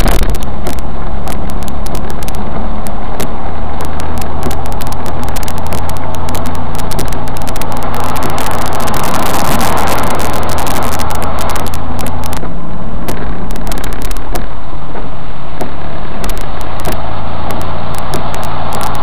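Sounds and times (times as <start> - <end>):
engine and road hum: 0.0 - 19.0
rain wash: 0.0 - 19.0
sharp rain ticks: 0.0 - 19.0
vehicle ploughing through water: 0.0 - 19.0.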